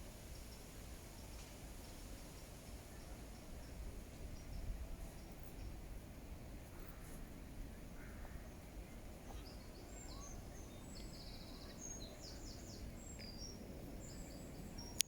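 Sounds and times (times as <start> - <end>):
low outdoor rumble: 0.0 - 15.0
songbird chirping: 0.0 - 15.0.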